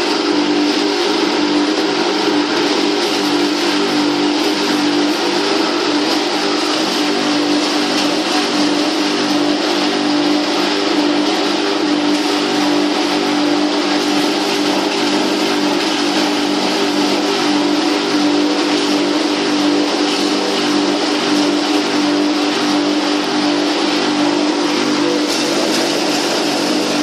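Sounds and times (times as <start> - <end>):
hammer mill humming and hissing: 0.0 - 27.0.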